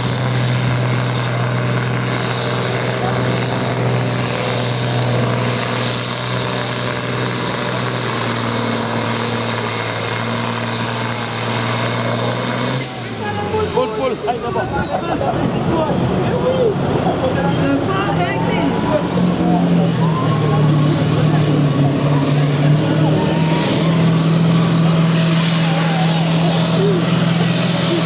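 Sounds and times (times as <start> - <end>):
tractor diesel engine roaring: 0.0 - 28.0.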